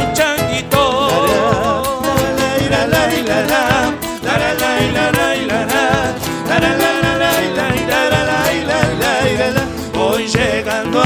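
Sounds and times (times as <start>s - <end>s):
acoustic guitars strummed: 0.0s - 11.0s
voices singing with vibrato: 0.4s - 11.0s.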